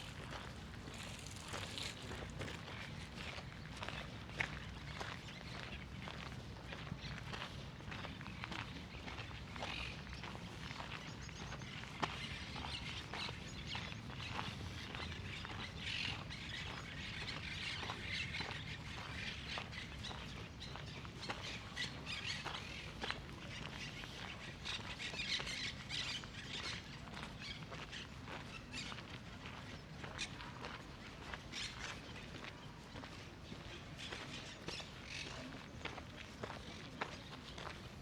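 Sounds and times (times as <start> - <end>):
footsteps on a path: 0.0 - 38.0.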